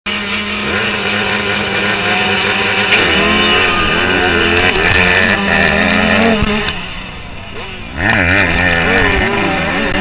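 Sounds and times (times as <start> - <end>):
dirt bikes revving: 0.1 - 10.0.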